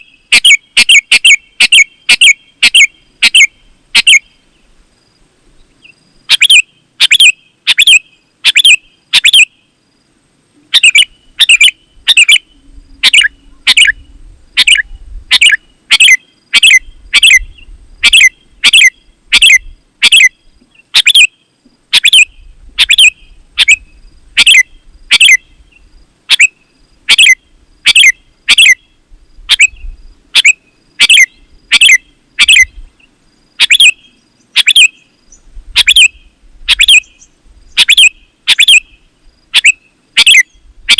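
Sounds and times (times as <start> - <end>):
bird calling sharp notes: 0.0 - 4.4, 5.8 - 9.6, 10.6 - 32.8, 33.6 - 40.9.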